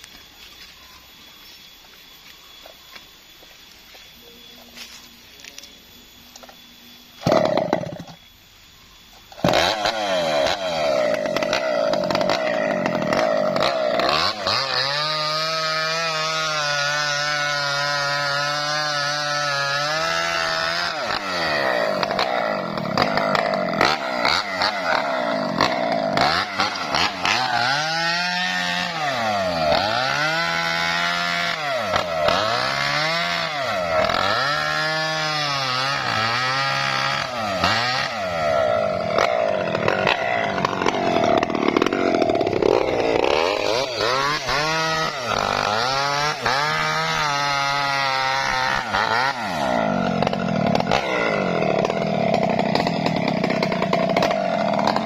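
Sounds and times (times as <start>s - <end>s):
chainsaw revving and cutting wood: 7.2s - 8.3s, 9.3s - 55.0s.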